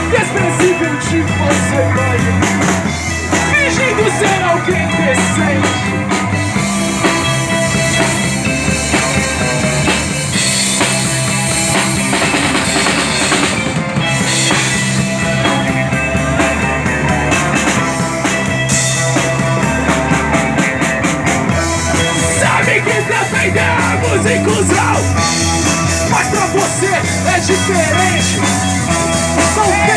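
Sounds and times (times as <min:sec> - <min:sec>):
drum kit: 0:00.0 - 0:29.9
low bass notes: 0:00.0 - 0:29.9
rock band playing: 0:00.0 - 0:29.9.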